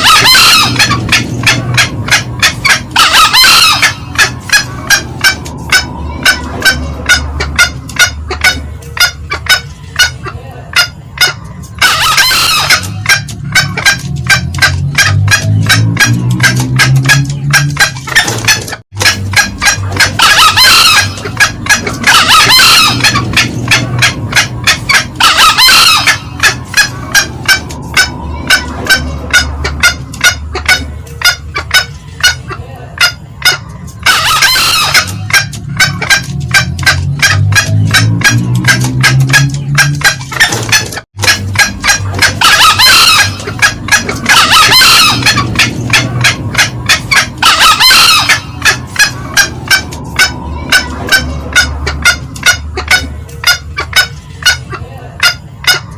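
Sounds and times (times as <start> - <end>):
junglefowl cackling: 0.0 - 55.9
rough junglefowl calls: 0.0 - 55.9.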